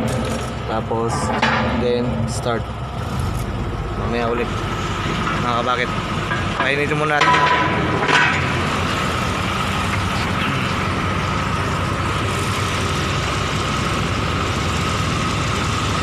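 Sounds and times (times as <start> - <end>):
diesel engine idling: 0.0 - 16.0
steady engine whine: 0.0 - 16.0.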